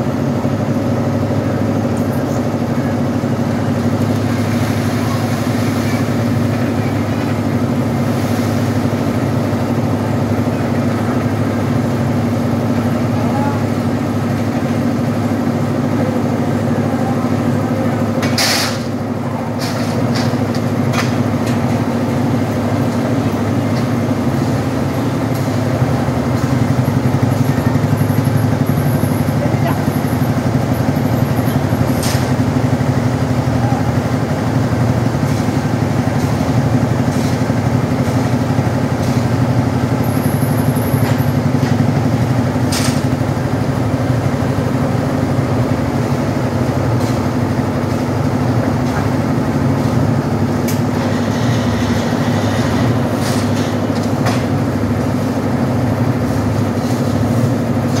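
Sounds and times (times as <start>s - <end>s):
concrete mixer engine running: 0.0s - 58.0s.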